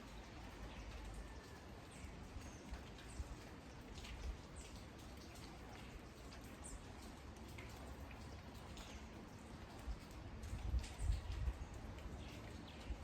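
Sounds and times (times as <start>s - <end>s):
light rain falling: 0.0s - 13.0s
water drips: 0.0s - 13.0s.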